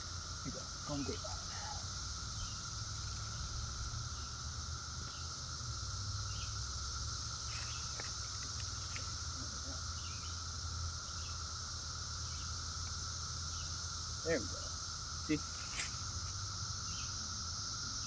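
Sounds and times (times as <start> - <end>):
cicadas droning: 0.0 - 18.0.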